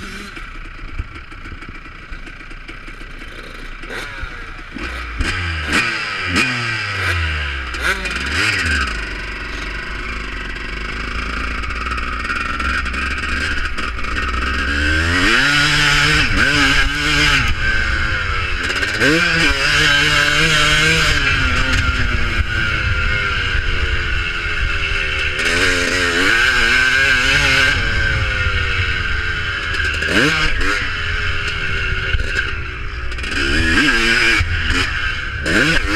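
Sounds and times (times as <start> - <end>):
motocross bikes racing: 0.0 - 35.9.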